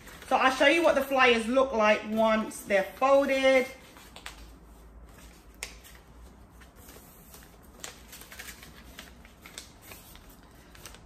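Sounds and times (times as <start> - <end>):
paper rustling: 0.0 - 1.0, 2.1 - 11.0.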